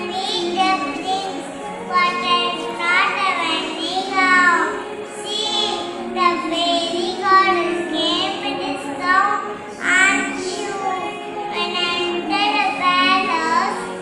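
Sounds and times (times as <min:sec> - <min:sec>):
child singing: 0:00.0 - 0:14.0
musical accompaniment: 0:00.0 - 0:14.0.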